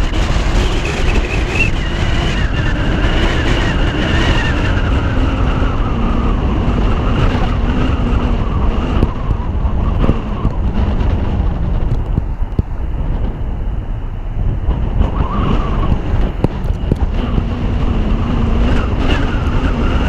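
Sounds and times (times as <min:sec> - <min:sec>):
road noise: 0:00.0 - 0:20.0
wind rumble on microphone: 0:00.0 - 0:20.0.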